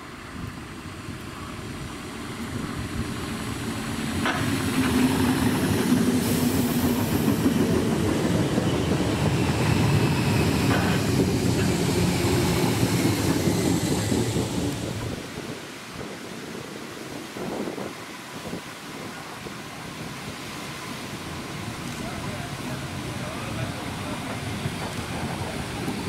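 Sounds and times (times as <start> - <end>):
electric train running past: 0.0 - 26.0.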